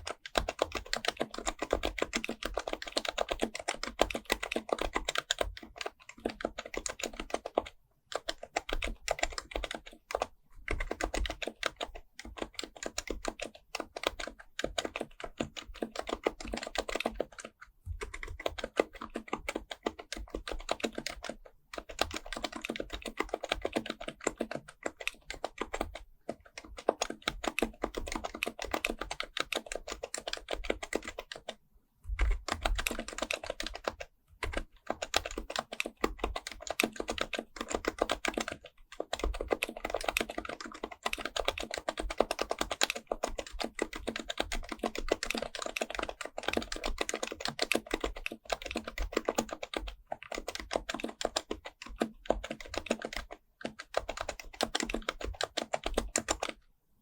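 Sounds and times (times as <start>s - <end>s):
soft keyboard typing: 0.0s - 56.7s.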